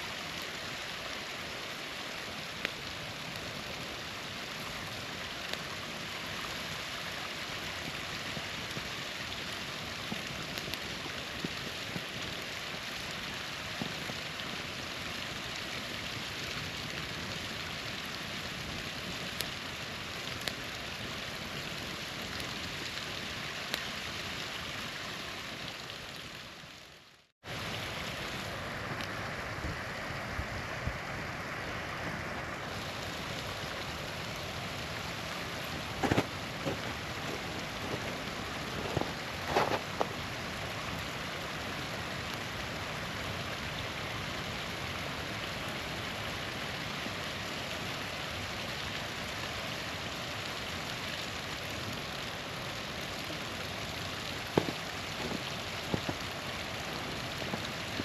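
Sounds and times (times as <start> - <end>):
campfire crackling and popping: 0.0 - 29.8, 31.7 - 58.0
small waterfall rushing: 0.0 - 58.0.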